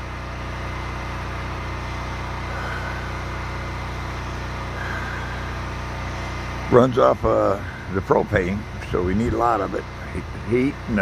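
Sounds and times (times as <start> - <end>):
generator engine hum: 0.0 - 11.0.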